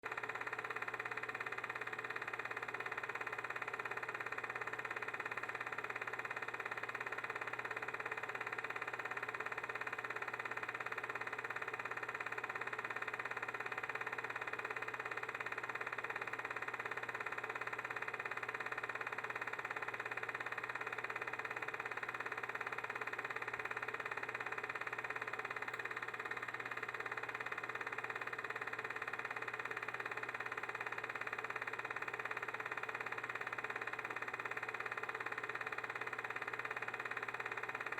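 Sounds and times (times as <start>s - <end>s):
film projector whirring: 0.0s - 37.9s.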